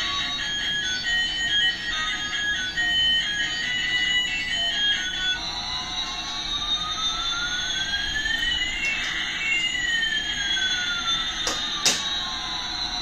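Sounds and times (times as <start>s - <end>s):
toy jet engine whoosh and whistle: 0.1s - 13.0s.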